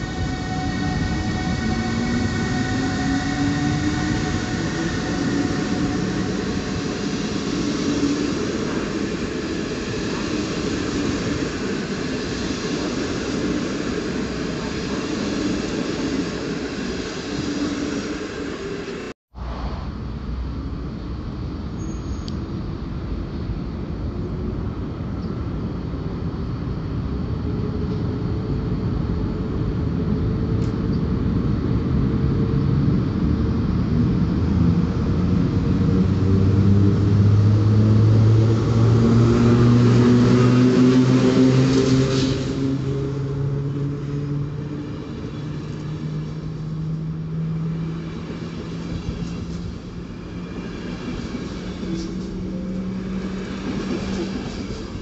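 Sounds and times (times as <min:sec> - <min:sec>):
electric locomotive hum: 0:00.0 - 0:55.0
train coaches rolling past: 0:00.0 - 0:55.0.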